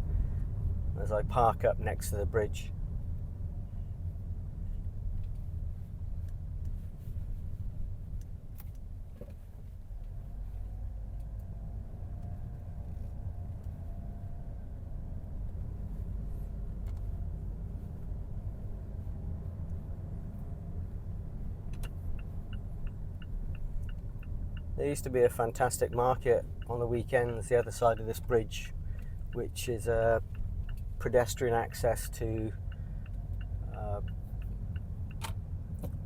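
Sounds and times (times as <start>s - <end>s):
car engine rumble: 0.0s - 36.0s.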